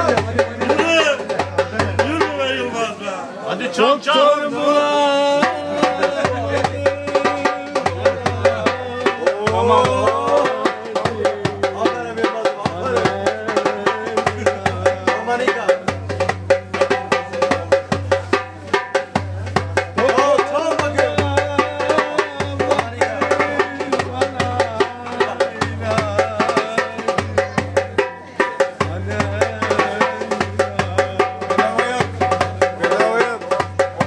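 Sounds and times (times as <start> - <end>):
man singing: 0.0 - 34.0
hand drum strokes: 5.4 - 34.0.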